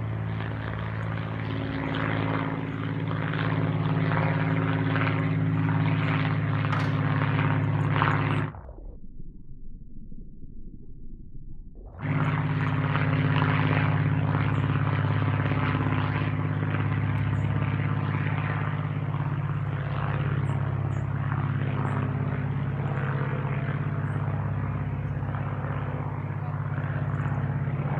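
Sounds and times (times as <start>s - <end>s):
propeller plane droning: 0.0s - 27.9s.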